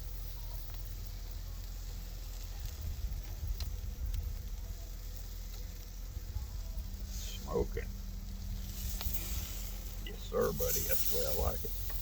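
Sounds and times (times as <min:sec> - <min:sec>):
fire crackling: 0:00.0 - 0:12.0
low rumble: 0:00.0 - 0:12.0
steak sizzling: 0:00.0 - 0:12.0.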